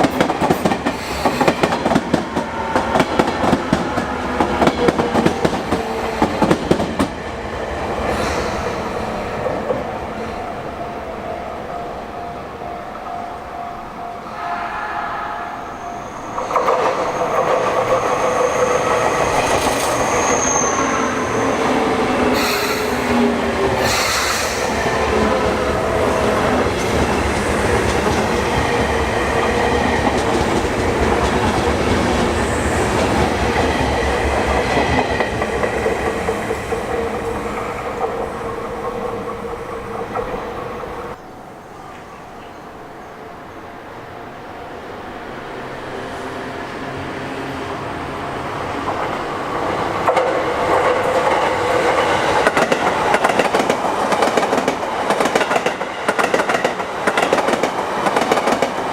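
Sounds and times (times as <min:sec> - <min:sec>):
train rail noise: 0:00.0 - 0:58.9.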